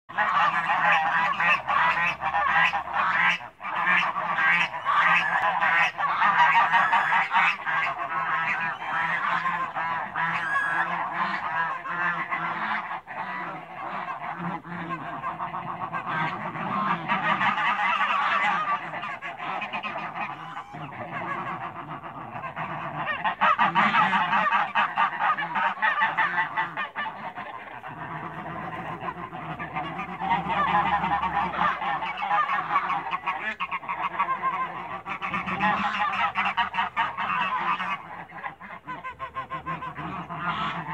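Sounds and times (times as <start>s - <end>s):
geese honking: 0.1s - 40.9s.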